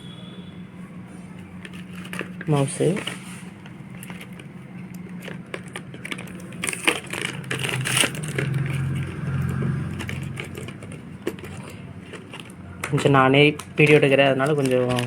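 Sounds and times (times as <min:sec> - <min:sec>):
packaging crinkling and rustling: 0:01.4 - 0:15.0.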